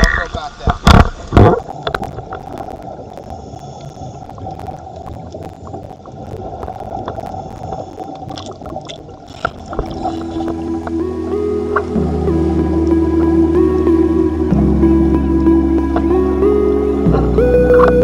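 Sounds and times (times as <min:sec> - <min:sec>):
underwater bubbling: 0:00.0 - 0:18.0.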